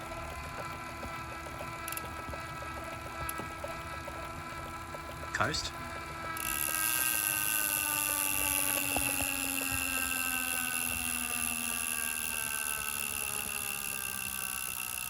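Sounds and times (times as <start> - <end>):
flywheel whine: 0.0 - 15.0.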